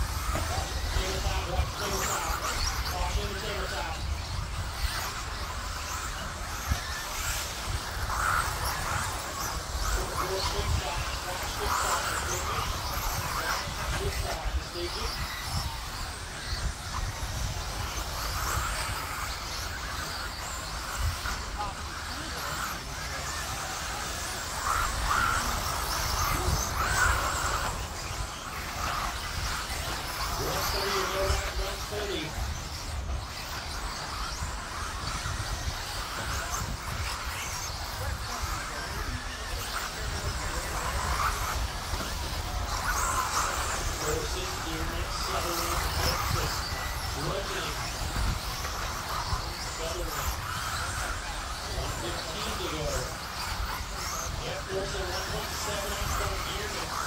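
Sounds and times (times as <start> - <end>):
rc cars rushing past: 0.0 - 57.0.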